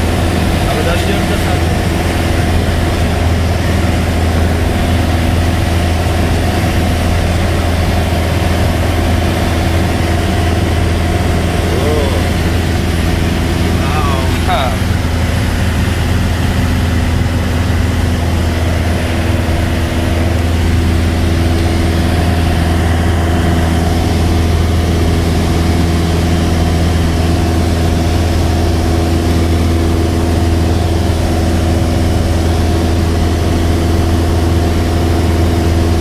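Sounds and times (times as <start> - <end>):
light aircraft engine and propeller: 0.0 - 36.0.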